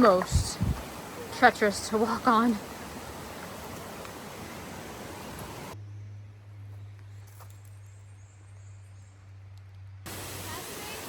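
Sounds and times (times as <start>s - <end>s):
rushing outdoor background noise: 0.0s - 11.0s.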